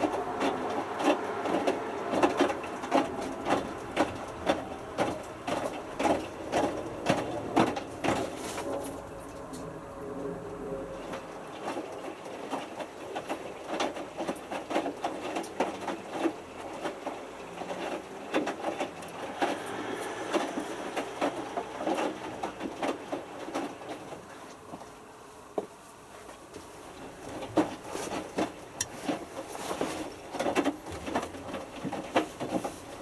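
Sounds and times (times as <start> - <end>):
washing machine drum running: 0.0 - 24.4, 26.6 - 33.0.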